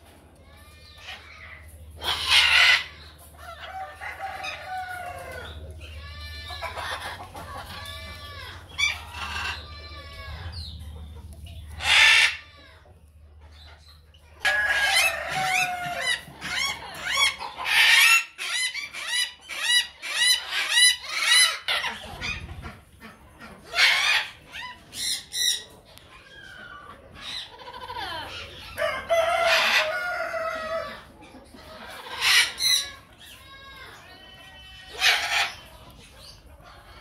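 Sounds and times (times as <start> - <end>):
birds calling: 0.0 - 37.0.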